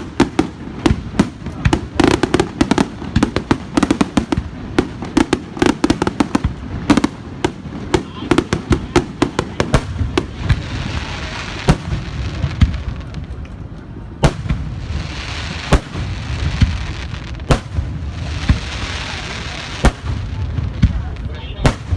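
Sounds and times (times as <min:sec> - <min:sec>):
fireworks bangs: 0:00.0 - 0:21.9
fireworks crackling hiss: 0:00.0 - 0:21.9.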